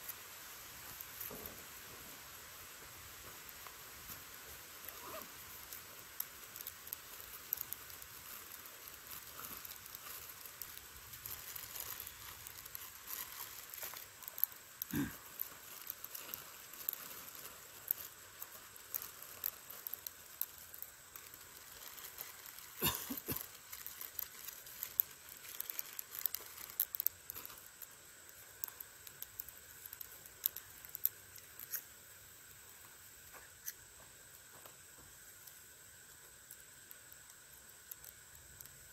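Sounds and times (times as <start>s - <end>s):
dry tinder crackling and rustling: 0.0s - 38.9s.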